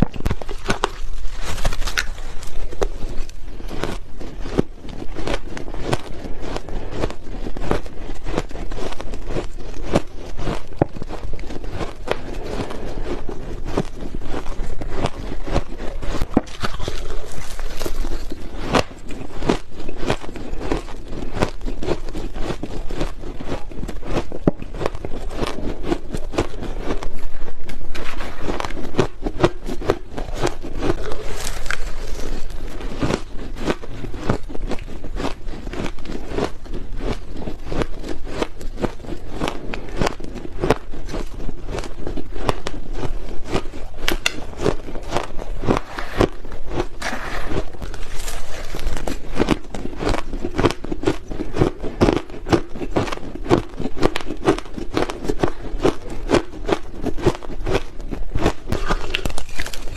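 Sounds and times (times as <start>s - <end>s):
crunching ice: 0.0s - 59.9s.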